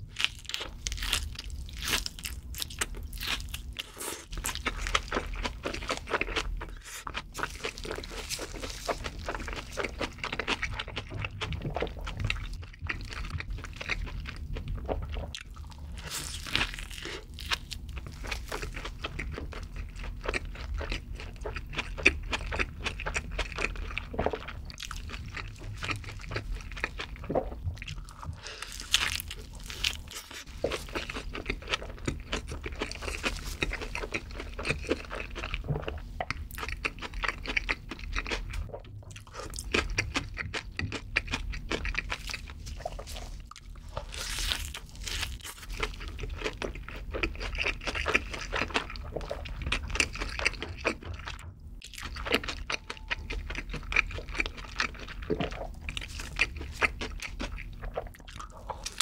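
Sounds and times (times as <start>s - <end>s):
burger crunching while chewed: 0.0s - 59.0s.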